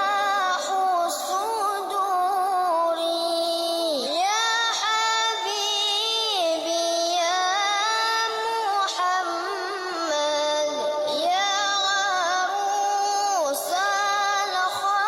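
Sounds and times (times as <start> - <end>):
high voice singing slow melody: 0.0 - 15.0.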